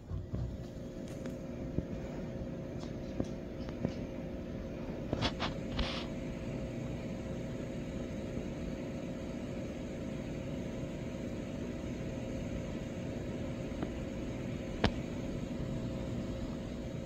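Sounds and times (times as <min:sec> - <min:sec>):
faint whine: 0:00.0 - 0:17.0
low appliance hum: 0:00.0 - 0:17.0.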